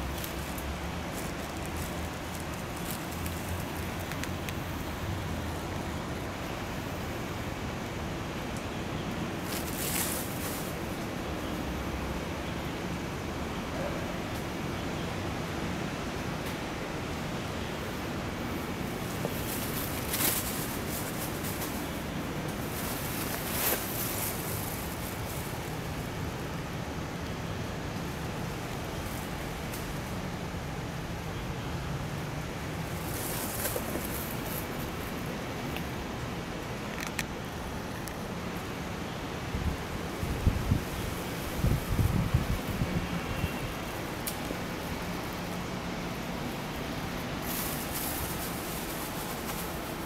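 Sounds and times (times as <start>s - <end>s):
steady outdoor hiss: 0.0s - 50.0s.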